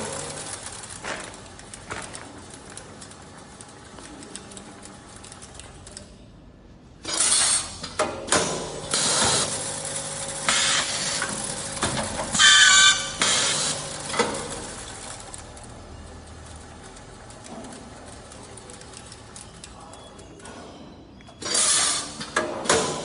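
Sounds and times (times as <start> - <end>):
packing machine running: 0.0 - 6.2, 7.0 - 23.0.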